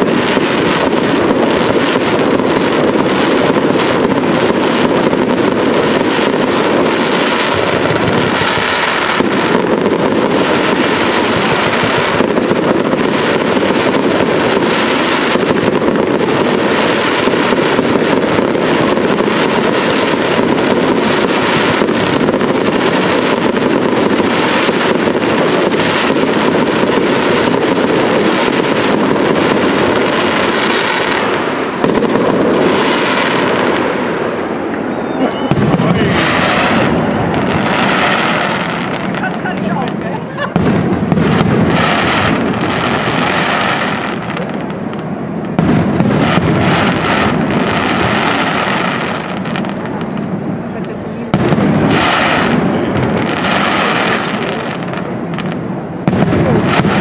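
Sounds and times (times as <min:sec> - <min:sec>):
firework shells bursting: 0:00.0 - 0:57.0
fireworks crackling: 0:00.0 - 0:57.0.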